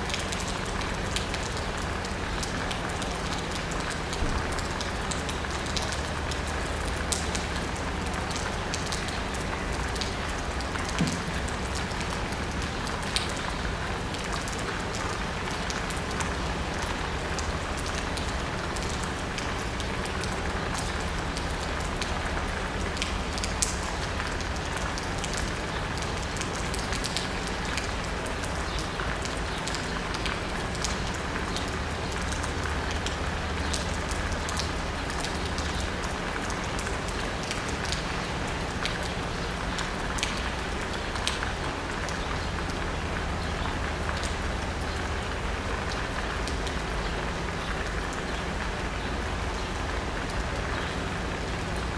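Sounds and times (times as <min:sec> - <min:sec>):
city traffic hum: 0:00.0 - 0:51.9
rain on asphalt and rooftops: 0:00.0 - 0:51.9.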